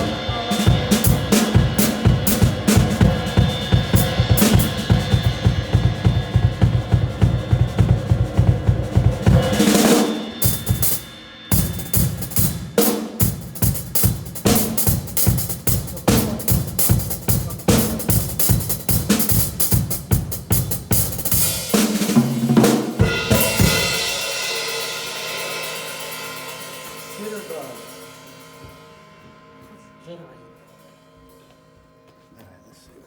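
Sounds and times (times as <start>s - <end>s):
drums played with mallets: 0.0s - 29.5s
cymbal crash ringing: 0.0s - 32.0s.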